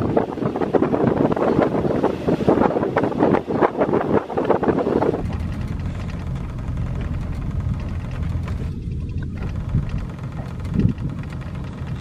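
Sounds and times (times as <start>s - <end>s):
outboard motor humming: 0.0s - 12.0s
wind gusts on microphone: 0.0s - 12.0s.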